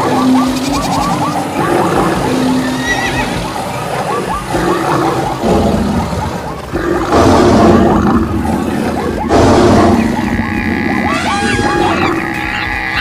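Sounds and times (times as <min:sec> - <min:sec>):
many animals calling: 0:00.0 - 0:13.0.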